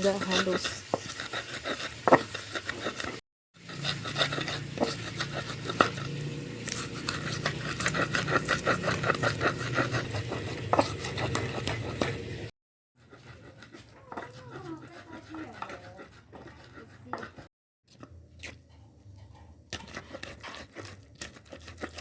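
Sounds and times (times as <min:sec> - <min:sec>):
pestle grinding in mortar: 0:00.0 - 0:22.0.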